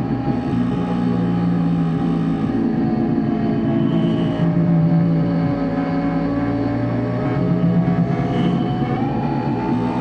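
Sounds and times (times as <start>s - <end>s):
synthesizer drone: 0.0s - 10.0s.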